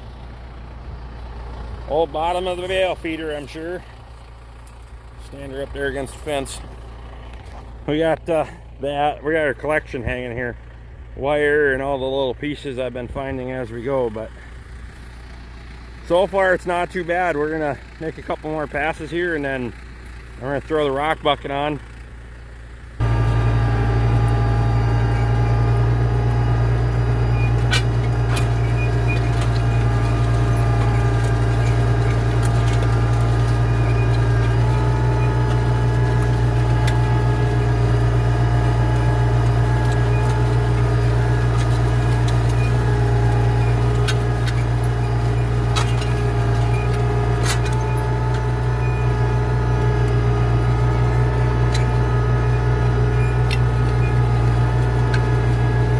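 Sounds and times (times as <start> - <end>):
tractor engine droning: 0.0 - 55.9.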